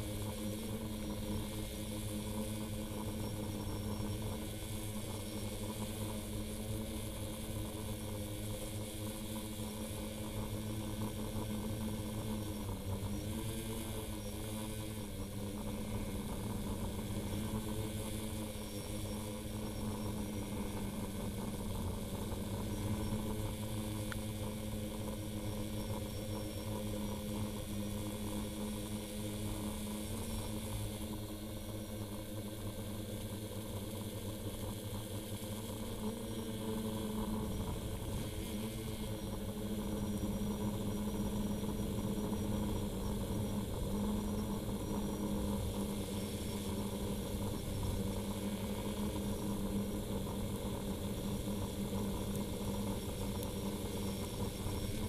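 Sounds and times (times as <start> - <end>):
drone propellers humming: 0.0 - 55.0.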